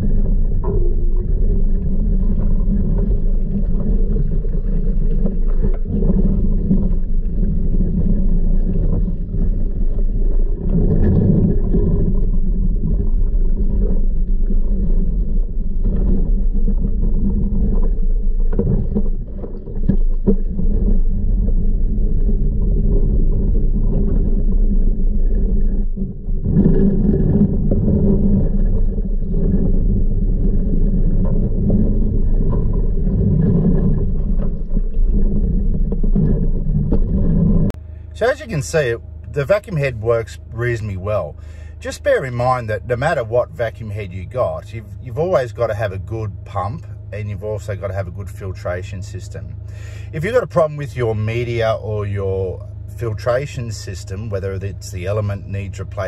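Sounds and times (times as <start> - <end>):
steady low hum: 0.0 - 56.0
underwater rumble: 0.0 - 56.0.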